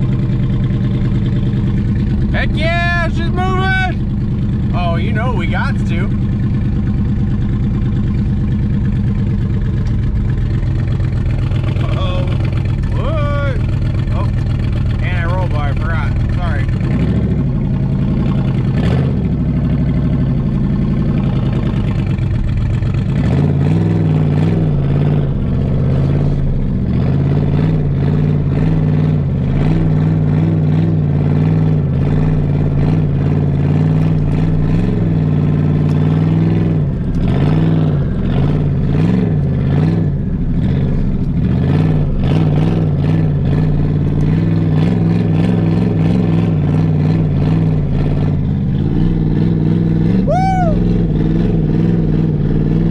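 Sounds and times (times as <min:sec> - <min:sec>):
truck engine humming at low revs: 0:00.0 - 0:52.9.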